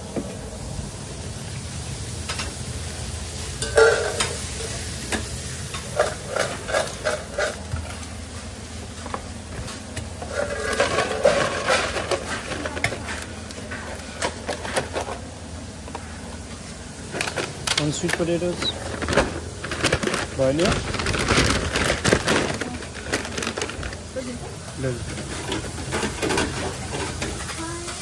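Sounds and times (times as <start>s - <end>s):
fries clattering in metal bowl: 3.3s - 16.0s, 16.8s - 28.0s.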